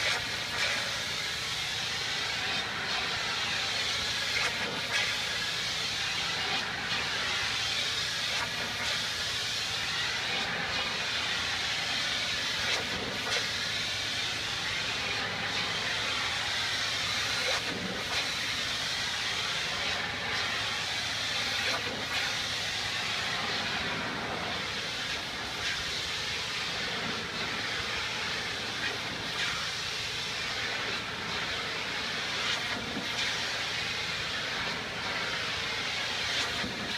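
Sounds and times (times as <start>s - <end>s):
pressure washer spray hissing: 0.0s - 36.9s.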